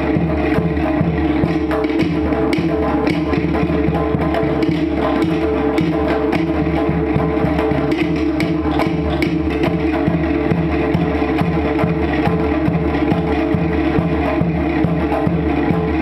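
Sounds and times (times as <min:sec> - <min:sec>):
drums: 0:00.0 - 0:16.0
wooden slit drums: 0:00.0 - 0:16.0.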